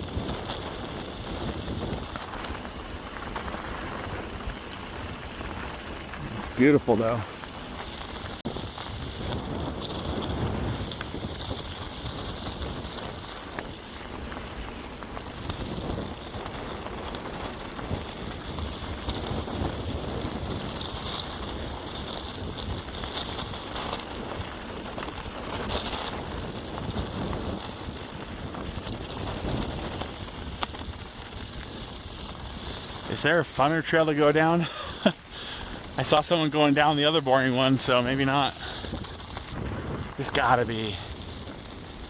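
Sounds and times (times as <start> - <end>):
wind on microphone: 0.0 - 33.9, 34.6 - 42.0
bike tyres on dirt: 0.0 - 42.0.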